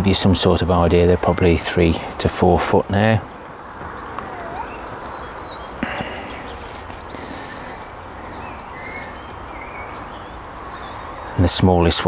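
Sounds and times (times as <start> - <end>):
distant bird chirps: 0.0 - 12.0
low rumble of background noise: 0.0 - 12.0.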